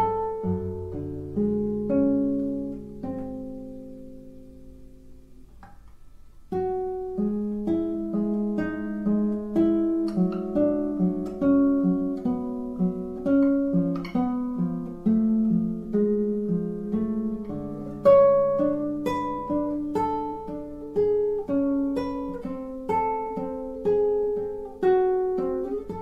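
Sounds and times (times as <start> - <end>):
classical guitar fingerstyle: 0.0 - 26.0.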